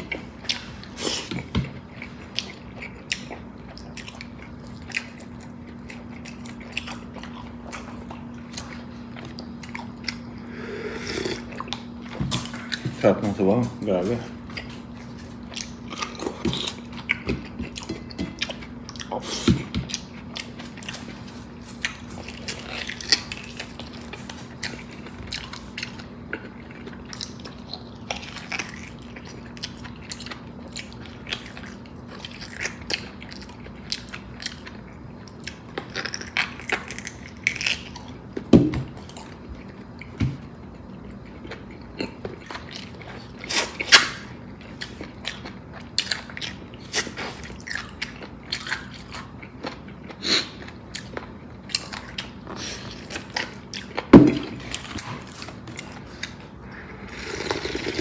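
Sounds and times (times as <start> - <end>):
person chewing and biting: 0.0 - 13.1, 14.4 - 58.0.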